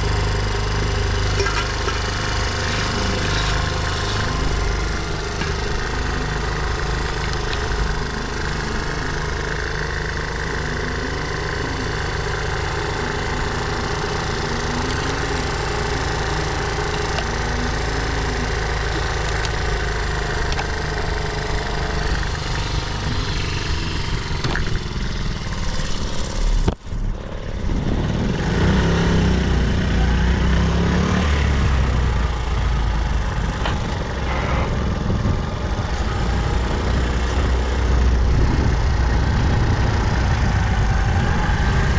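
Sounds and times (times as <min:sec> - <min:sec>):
small motorcycle engine running: 0:00.0 - 0:41.9.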